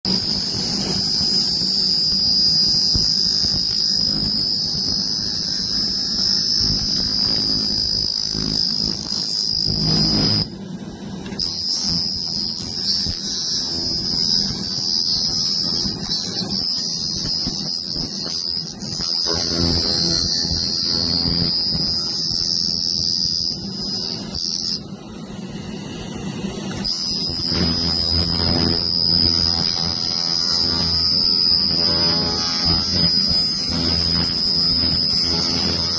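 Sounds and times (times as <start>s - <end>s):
laser cleaner whining: 0.1s - 35.9s.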